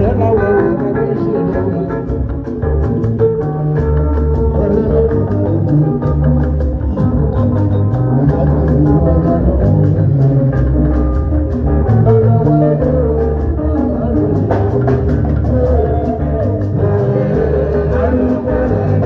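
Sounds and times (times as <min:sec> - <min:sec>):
live band instrumental music: 0:00.0 - 0:19.0.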